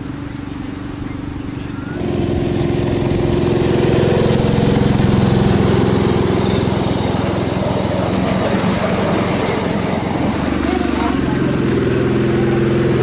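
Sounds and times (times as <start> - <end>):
miniature locomotive engine running: 0.0 - 13.0.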